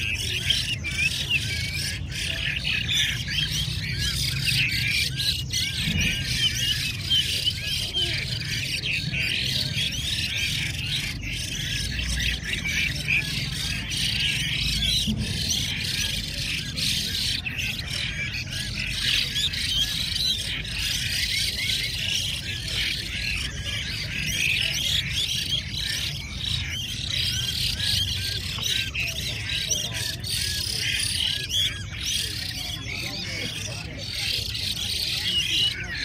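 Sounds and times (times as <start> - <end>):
chorus of birds singing: 0.0 - 36.0
low background murmur: 0.0 - 36.0.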